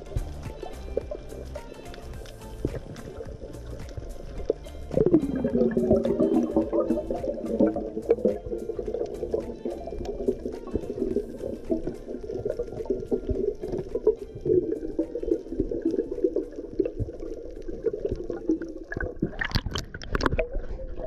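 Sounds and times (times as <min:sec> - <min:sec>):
crackling water noises: 0:00.0 - 0:21.0
underwater gurgling wash: 0:00.0 - 0:21.0.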